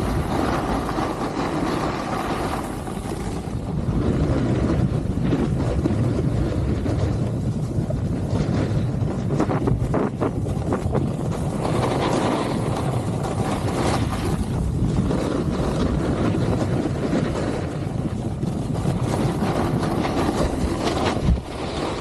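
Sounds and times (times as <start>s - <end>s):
snowboard sliding on snow: 0.0s - 22.0s
wind rushing over microphone: 0.0s - 22.0s.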